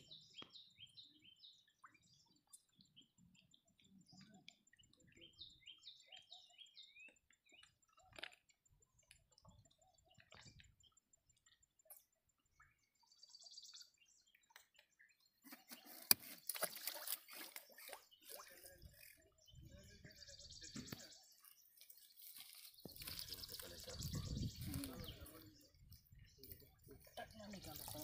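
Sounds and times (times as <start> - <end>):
faint bird chirping: 0.0 - 28.0.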